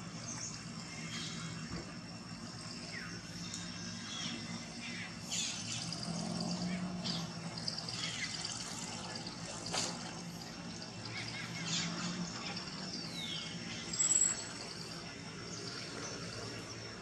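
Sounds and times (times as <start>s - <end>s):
birds chirping: 0.0s - 17.0s
high-pitched whine: 0.0s - 17.0s.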